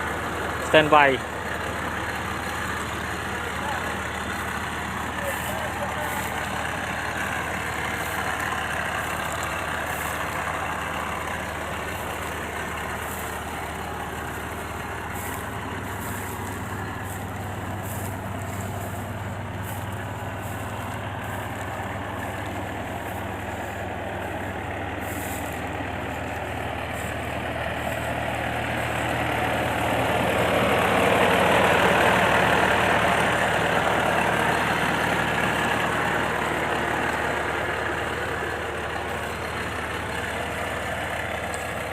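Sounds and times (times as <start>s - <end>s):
diesel engine humming: 0.0s - 41.9s.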